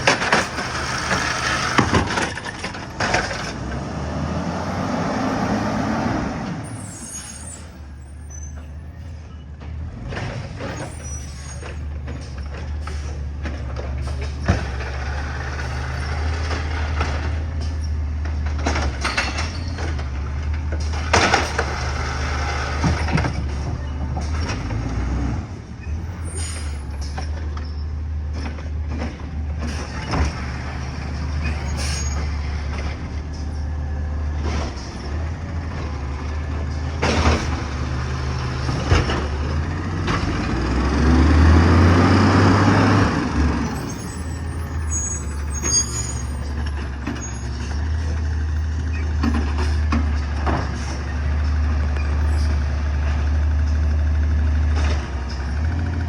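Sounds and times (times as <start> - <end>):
clunks and knocks: 0.0 - 3.9, 9.6 - 25.1, 26.6 - 43.6, 45.4 - 53.8, 54.6 - 55.7
truck engine droning: 0.0 - 56.0.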